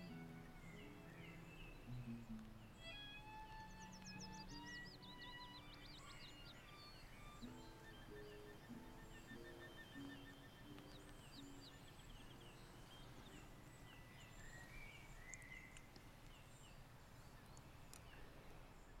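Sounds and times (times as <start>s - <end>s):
birds chirping and whistling: 0.0s - 15.9s.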